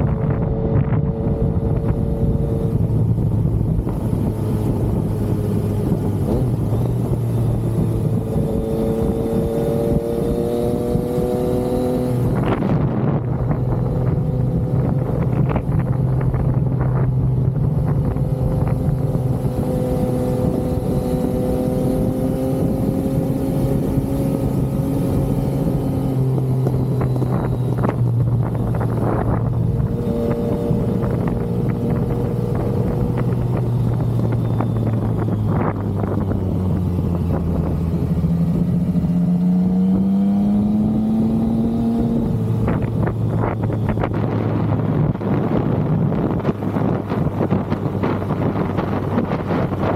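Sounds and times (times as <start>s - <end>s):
motorcycle engine on the road: 0.0s - 49.9s
wind noise on microphone: 0.0s - 49.9s.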